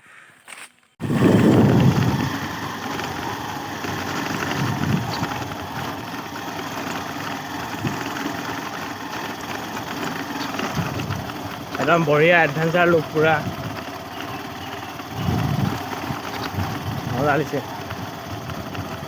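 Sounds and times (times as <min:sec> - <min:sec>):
motorcycle engine running: 0:01.0 - 0:19.0.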